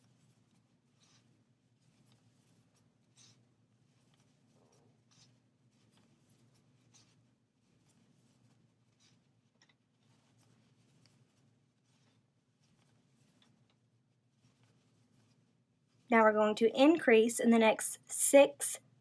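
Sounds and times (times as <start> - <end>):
crochet hook rustling yarn: 0.0 - 18.7.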